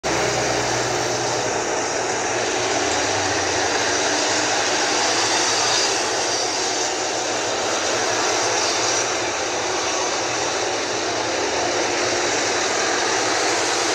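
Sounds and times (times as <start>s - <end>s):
jet engine roar: 0.0s - 13.9s.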